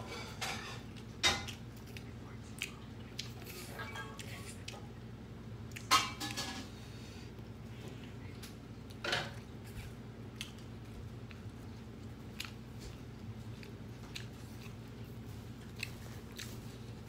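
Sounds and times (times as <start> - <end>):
chewing and smacking: 0.3 - 17.0.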